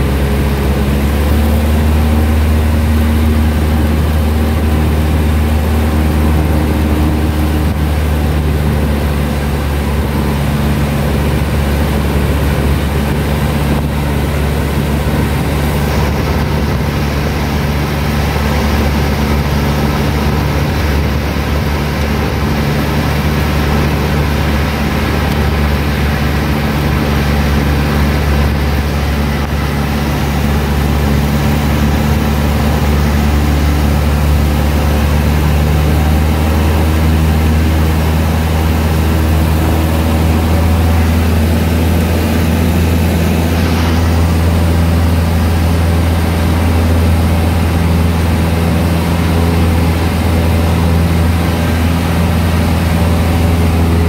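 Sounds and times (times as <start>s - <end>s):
airplane engine drone: 0.0s - 54.0s.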